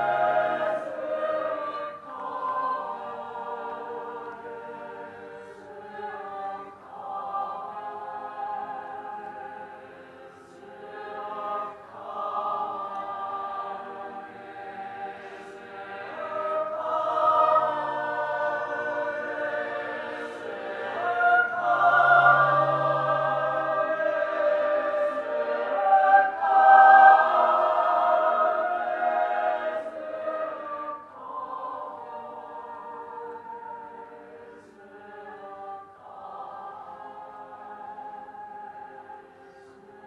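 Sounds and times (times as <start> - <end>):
mixed choir singing chords: 0.0 - 40.0.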